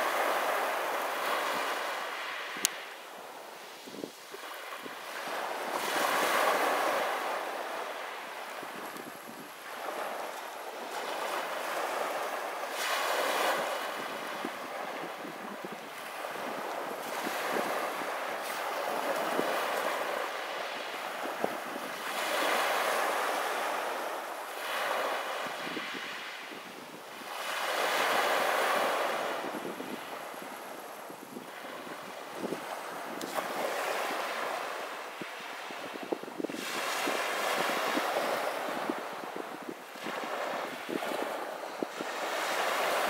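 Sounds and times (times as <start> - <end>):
waves breaking on pebble beach: 0.0 - 43.0.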